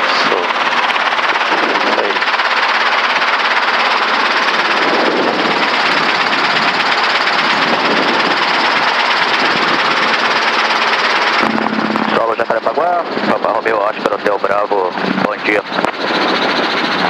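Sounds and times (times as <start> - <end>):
helicopter engine and rotor noise: 0.0 - 17.0.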